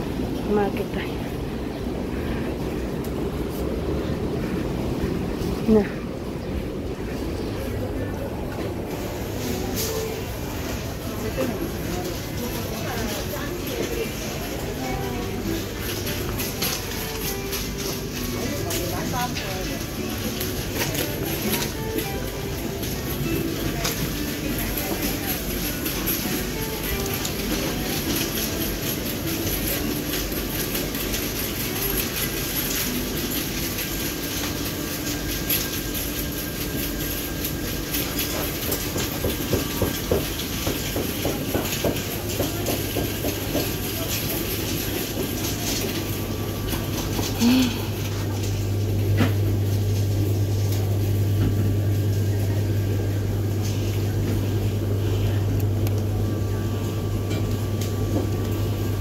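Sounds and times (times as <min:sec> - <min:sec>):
store background noise: 0:00.0 - 0:59.0.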